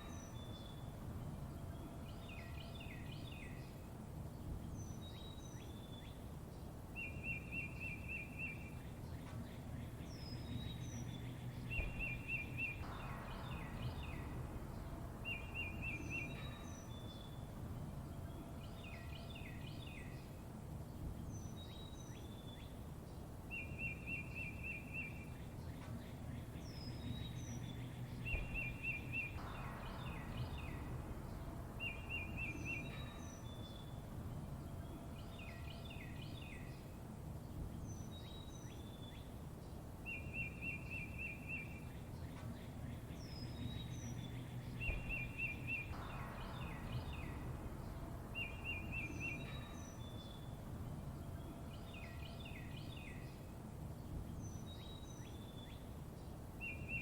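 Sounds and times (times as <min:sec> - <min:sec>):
low background rumble: 0:00.0 - 0:57.0
songbirds chirping: 0:00.0 - 0:57.0.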